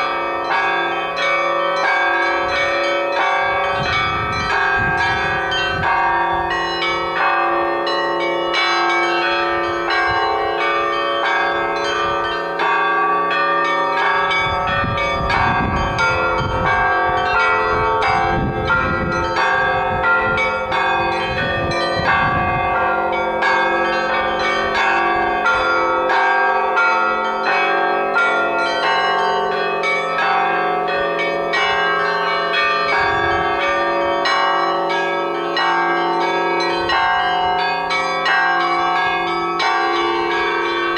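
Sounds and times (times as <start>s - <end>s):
deep bells humming: 0.0s - 40.9s.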